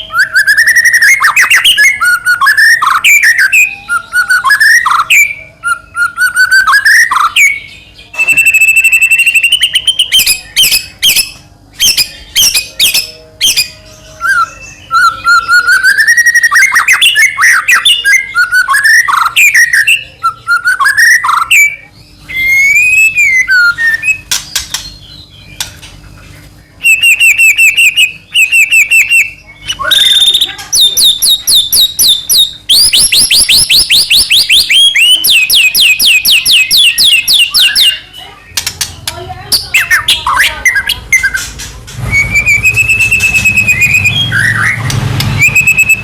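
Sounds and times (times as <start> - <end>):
bird singing whistled phrases: 0.0 - 25.7, 26.8 - 38.8, 42.0 - 46.0.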